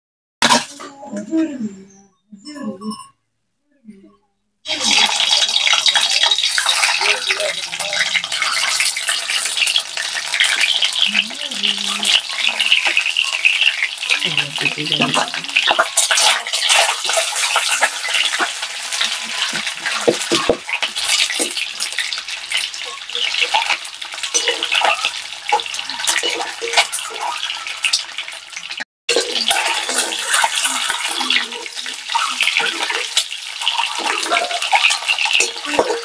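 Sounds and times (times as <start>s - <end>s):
eggs sizzling in hot oil: 4.7s - 36.0s.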